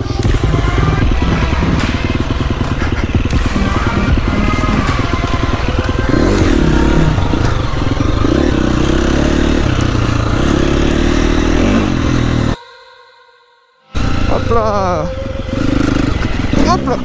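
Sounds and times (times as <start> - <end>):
dirt bike engine revving: 0.0 - 12.6, 14.0 - 17.0.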